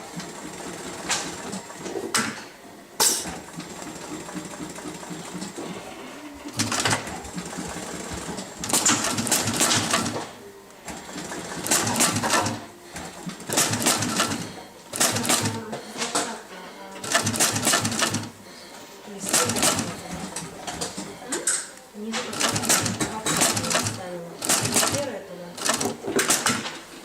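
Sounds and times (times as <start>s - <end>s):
sewing machine stitching leather: 0.0s - 2.4s, 3.0s - 15.8s, 17.0s - 18.4s, 19.2s - 21.2s, 22.2s - 26.8s.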